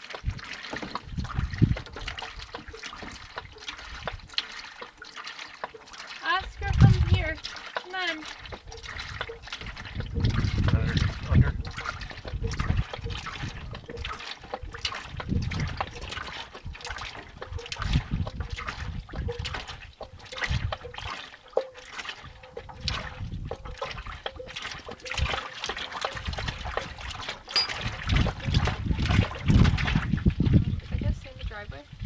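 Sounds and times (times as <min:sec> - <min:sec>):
oil trickling into drain pan: 0:00.0 - 0:32.0.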